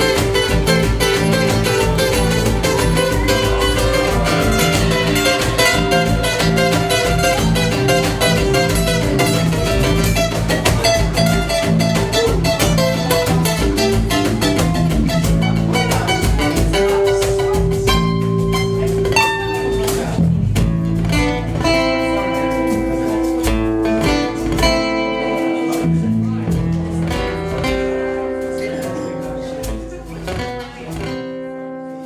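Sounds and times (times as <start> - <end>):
acoustic guitar plucking: 0.0 - 32.0.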